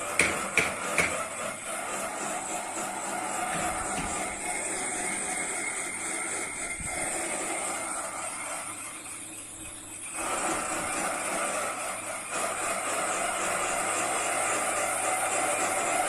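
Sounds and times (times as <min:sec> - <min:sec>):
metal lathe cutting: 0:00.0 - 0:16.0.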